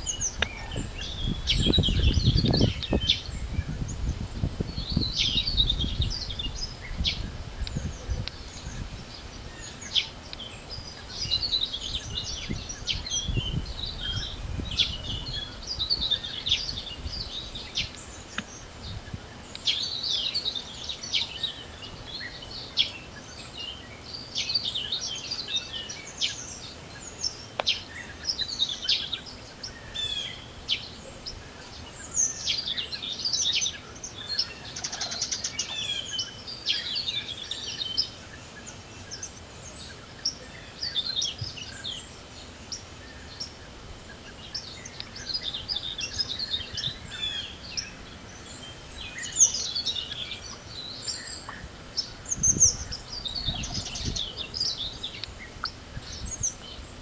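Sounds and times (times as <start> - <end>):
songbirds singing: 0.0 - 57.0
wind hiss: 0.0 - 57.0.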